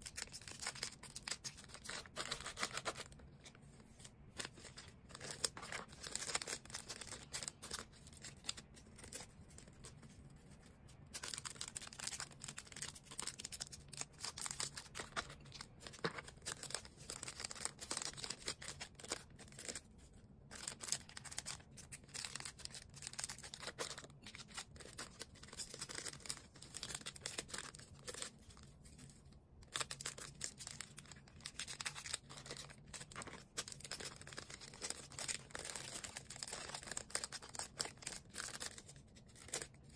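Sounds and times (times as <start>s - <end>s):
packaging rustling and tearing: 0.0s - 10.4s, 11.0s - 39.9s.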